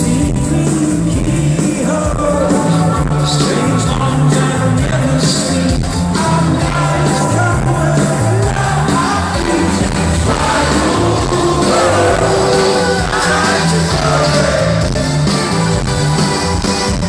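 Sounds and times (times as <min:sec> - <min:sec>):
person singing: 0:00.0 - 0:14.9
live pop-rock band playing: 0:00.0 - 0:17.0.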